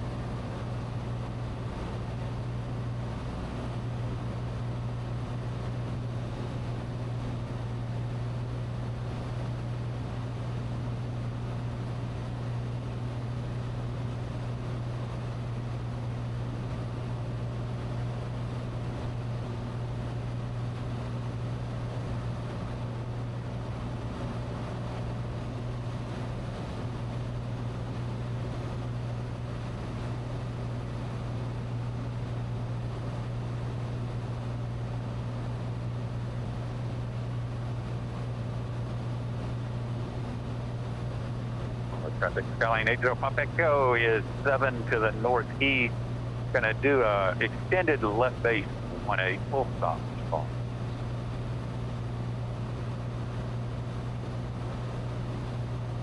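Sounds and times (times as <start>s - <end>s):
propeller plane engine droning: 0.0s - 56.0s.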